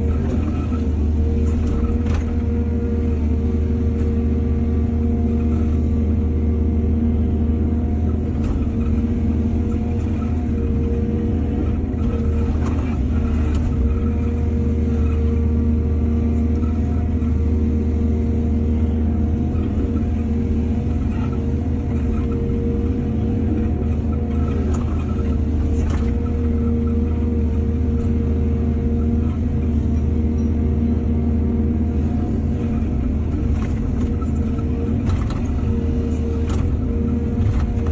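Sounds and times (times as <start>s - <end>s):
diesel engine running steadily: 0.0s - 37.9s.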